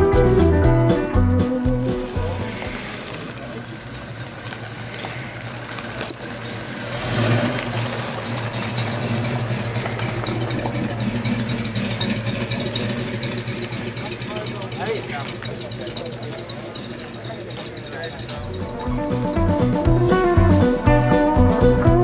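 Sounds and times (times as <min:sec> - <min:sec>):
car engine rolling past: 0:00.2 - 0:22.0.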